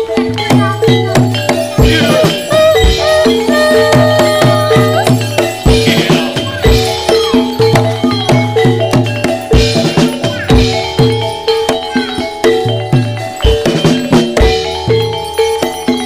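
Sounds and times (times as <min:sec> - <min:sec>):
gamelan music: 0:00.0 - 0:16.0.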